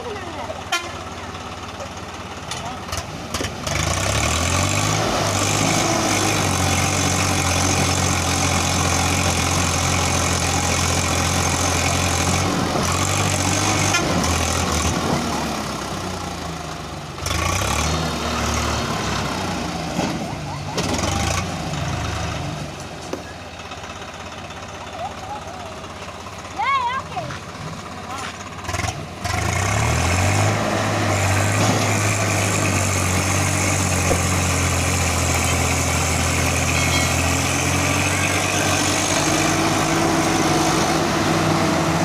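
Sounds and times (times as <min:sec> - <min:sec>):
heavy diesel engine under load: 0:00.0 - 0:42.0.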